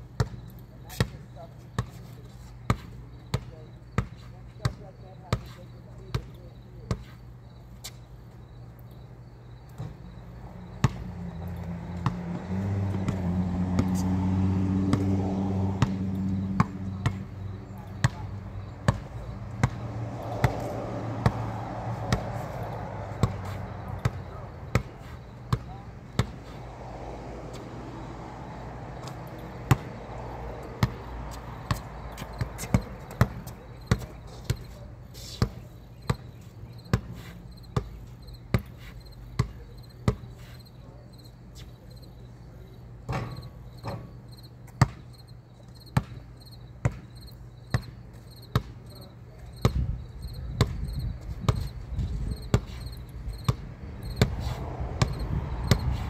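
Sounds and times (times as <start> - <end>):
basketball bouncing on concrete: 0.0 - 8.1, 9.7 - 41.0, 41.6 - 56.0.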